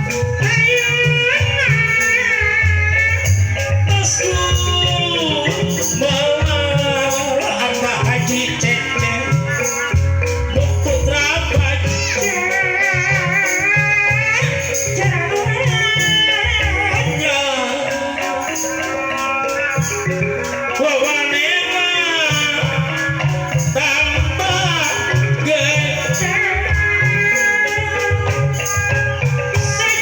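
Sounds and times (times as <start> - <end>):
hand drum patterns: 0.0 - 30.0
rattling percussion: 0.0 - 30.0.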